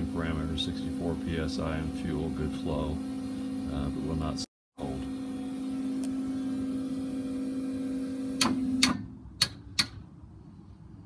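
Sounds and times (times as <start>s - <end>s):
electric hum: 0.0s - 8.8s.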